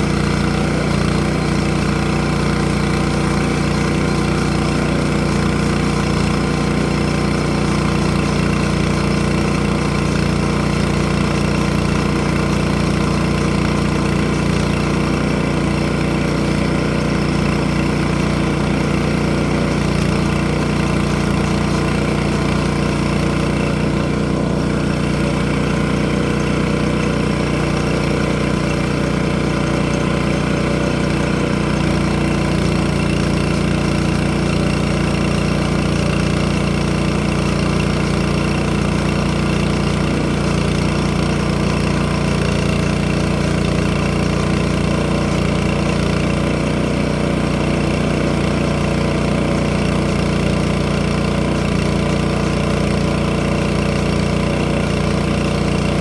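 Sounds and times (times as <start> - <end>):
sawmill engine idling: 0.0 - 56.0.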